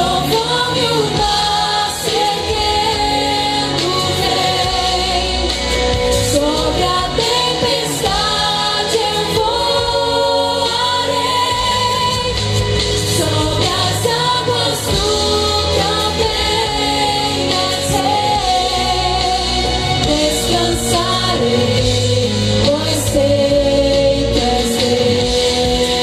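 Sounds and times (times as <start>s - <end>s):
woman singing gospel song: 0.0s - 26.0s.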